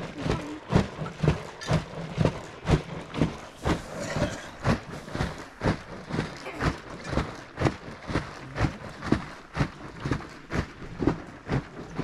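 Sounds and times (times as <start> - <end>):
liquid sloshing in swinging bag: 0.0 - 12.0.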